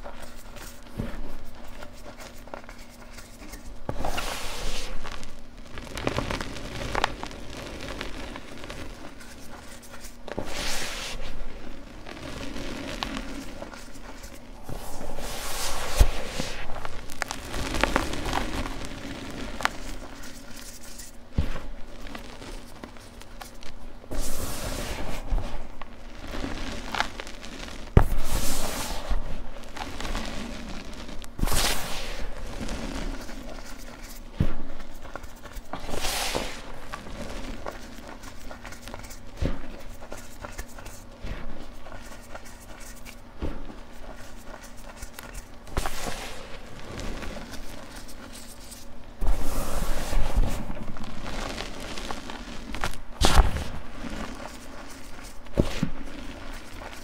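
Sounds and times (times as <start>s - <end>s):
hands crunching chalk: 0.0s - 57.0s
powder pouring hiss: 0.1s - 57.0s.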